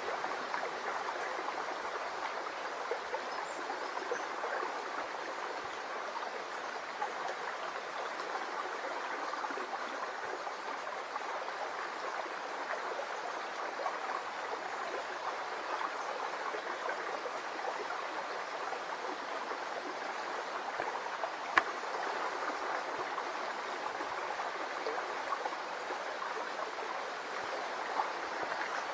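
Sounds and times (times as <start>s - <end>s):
brook babbling over stones: 0.0s - 28.9s.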